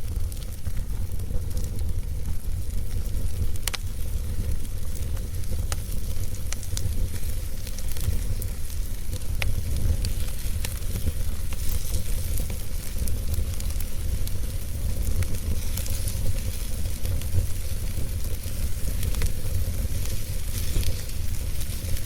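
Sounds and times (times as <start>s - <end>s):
fire crackling and popping: 0.0s - 22.0s
wood fire hissing: 0.0s - 22.0s.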